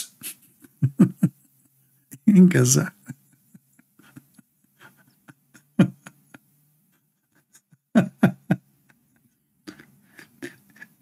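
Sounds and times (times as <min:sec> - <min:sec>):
faint low hum: 0:00.1 - 0:11.0.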